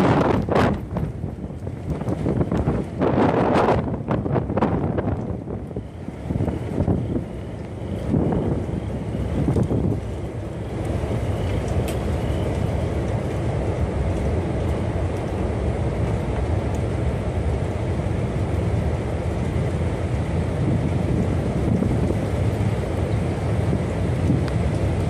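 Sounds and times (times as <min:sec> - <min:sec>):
storm wind buffeting microphone: 0:00.0 - 0:25.0.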